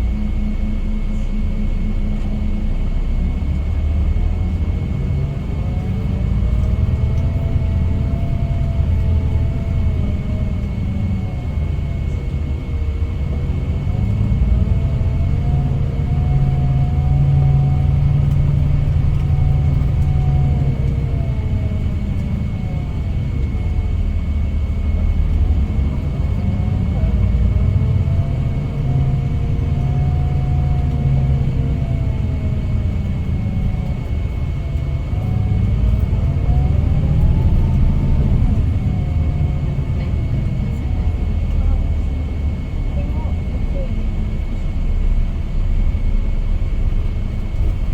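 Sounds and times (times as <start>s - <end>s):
coach engine deep rumble: 0.0s - 47.9s.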